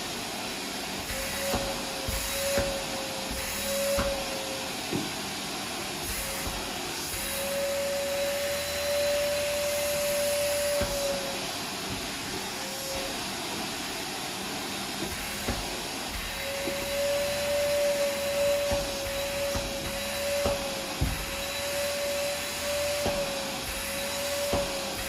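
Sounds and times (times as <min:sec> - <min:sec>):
vacuum cleaner suction hiss: 0:00.0 - 0:25.0.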